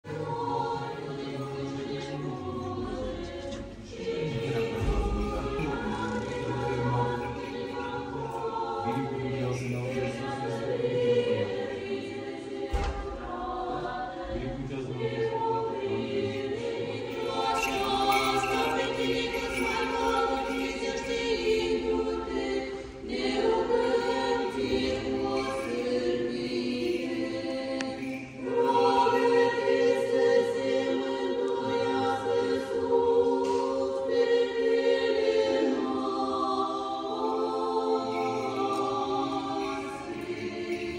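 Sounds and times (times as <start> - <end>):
choir singing unaccompanied chant: 0.0 - 40.9.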